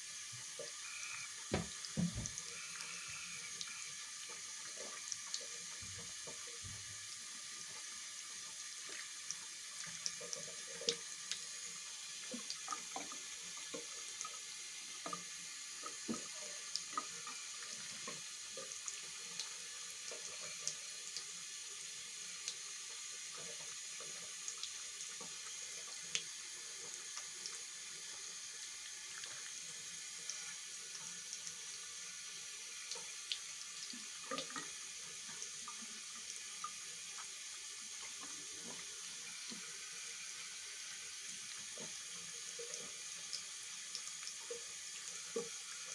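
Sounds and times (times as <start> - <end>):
water running from a tap: 0.0 - 45.9.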